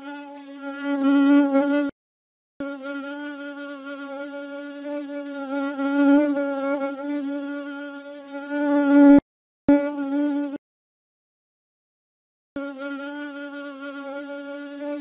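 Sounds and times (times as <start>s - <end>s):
fly buzzing: 0.0s - 2.0s, 2.6s - 10.6s, 12.6s - 15.0s.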